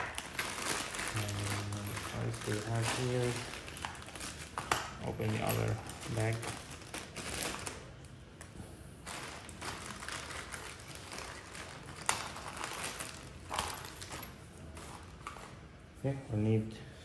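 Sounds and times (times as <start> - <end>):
plastic bag crinkling: 0.0 - 8.2, 9.0 - 15.7.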